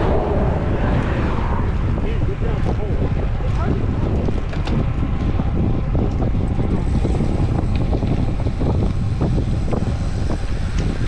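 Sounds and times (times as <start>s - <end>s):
wind buffeting microphone: 0.0s - 11.0s
bike ticks and rattles: 1.7s - 11.0s.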